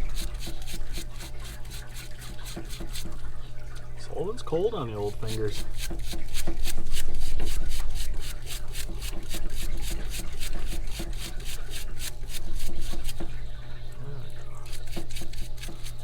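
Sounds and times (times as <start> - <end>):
scrubbing metal part: 0.0 - 3.2, 4.8 - 13.4, 14.7 - 16.0
steady low hum: 0.0 - 16.0.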